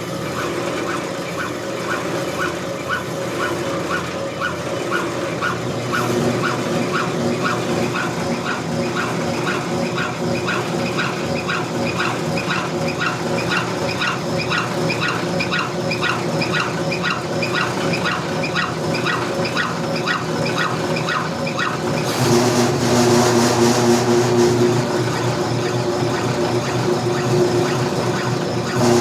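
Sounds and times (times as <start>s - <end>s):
regular squeak: 0.0s - 22.8s, 24.1s - 29.0s
brake lathe cutting metal: 0.0s - 29.0s.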